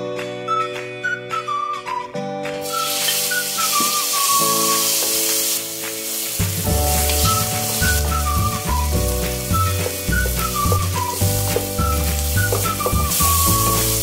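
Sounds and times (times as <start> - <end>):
background music: 0.0 - 14.0
chicken sizzling in frying pan: 2.6 - 14.0.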